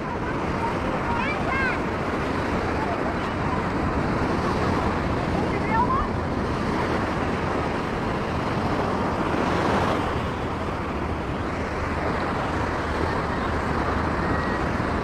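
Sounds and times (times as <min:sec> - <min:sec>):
surf washing onto beach: 0:00.0 - 0:15.0
wind rumbling on microphone: 0:00.0 - 0:15.0.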